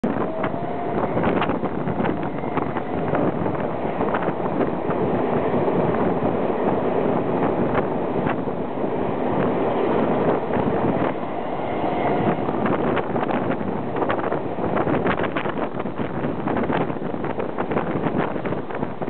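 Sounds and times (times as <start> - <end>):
train wheels rumbling on track: 0.0 - 19.0
wind on microphone: 0.0 - 19.0.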